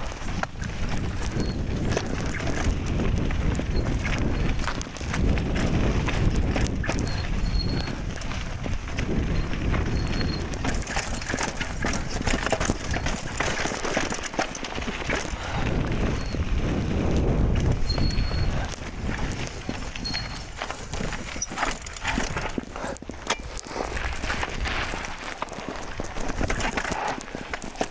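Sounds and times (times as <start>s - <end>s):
bike rattling and knocking: 0.0s - 27.9s
tyres crunching over dirt and stones: 0.0s - 27.9s
wind rumbling on microphone: 0.0s - 27.9s.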